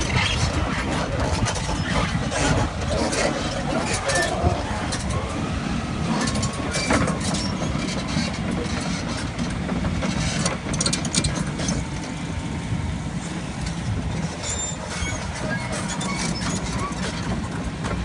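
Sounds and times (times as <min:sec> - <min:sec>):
diesel engine rumbling: 0:00.0 - 0:18.0.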